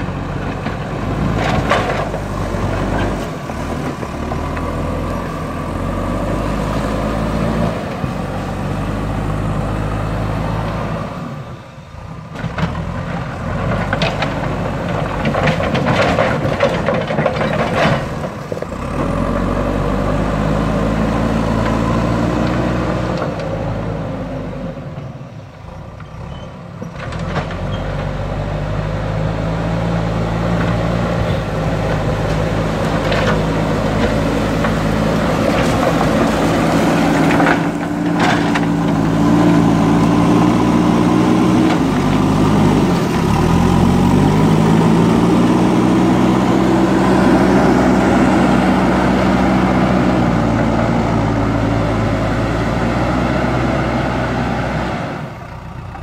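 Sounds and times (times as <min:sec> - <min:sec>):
diesel engine revving under load: 0:00.0 - 0:56.0.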